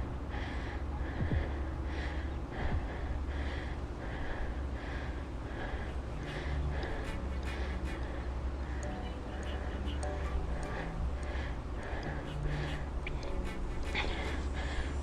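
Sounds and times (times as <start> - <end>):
woman breathing hard: 0.0 - 15.0.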